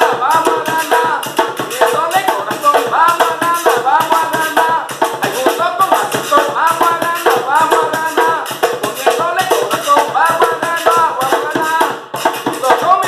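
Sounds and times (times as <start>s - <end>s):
shaker rhythm: 0.0s - 13.0s.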